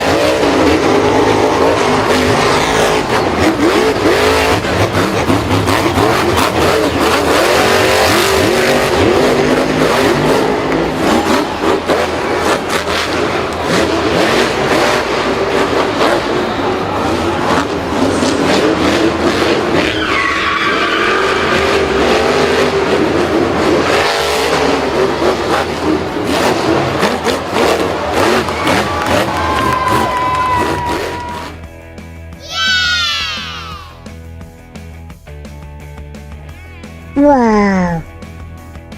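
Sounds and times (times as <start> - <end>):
tyres skidding and squealing: 0.0 - 34.2
engines revving: 0.0 - 37.2.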